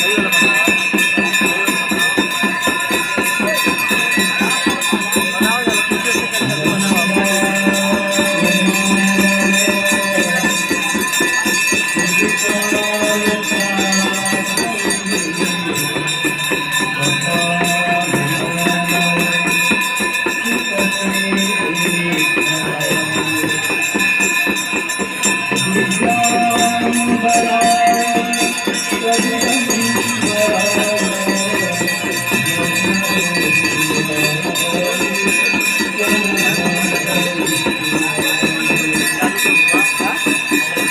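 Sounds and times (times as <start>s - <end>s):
bells ringing: 0.0s - 40.9s
devotional melody: 0.0s - 40.9s
fast jingling percussion: 0.0s - 40.9s.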